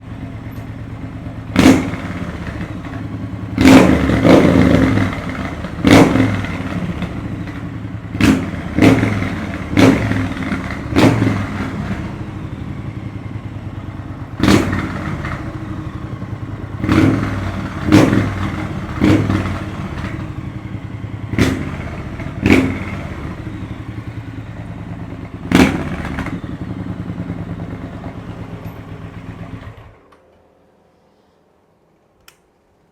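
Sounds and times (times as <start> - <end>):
motorcycle engine revving: 0.0 - 30.1.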